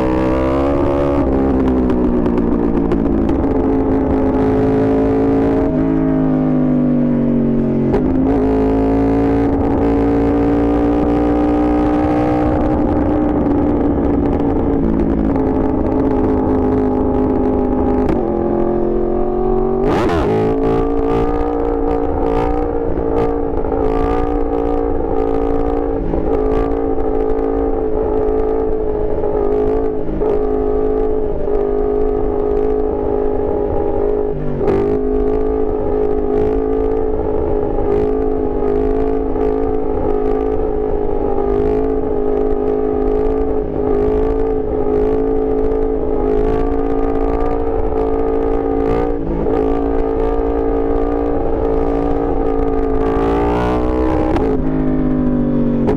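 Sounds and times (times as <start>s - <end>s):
motorcycle engine revving high: 0.0s - 55.9s.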